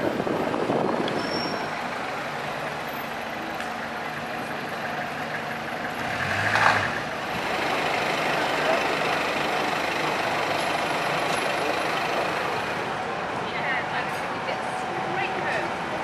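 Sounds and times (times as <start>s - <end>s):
heavy vehicle traffic: 0.0s - 16.0s.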